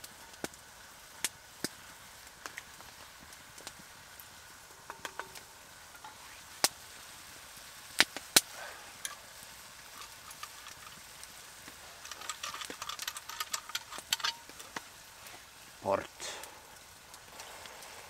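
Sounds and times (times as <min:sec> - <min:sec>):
sharp pops of fire: 0:00.0 - 0:18.0
wood fire crackling: 0:00.0 - 0:18.0.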